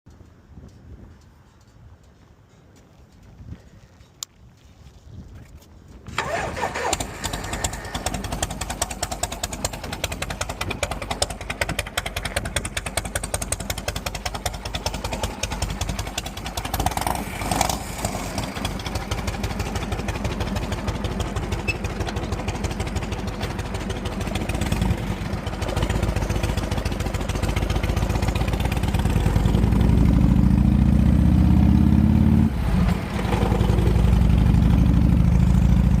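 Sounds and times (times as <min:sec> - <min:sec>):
motorcycle engine running: 0:06.1 - 0:36.0.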